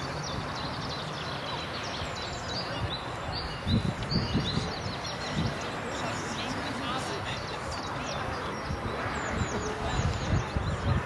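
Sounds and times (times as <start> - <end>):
small songbirds chirping: 0.0 - 11.0
steady open-air hiss: 0.0 - 11.0.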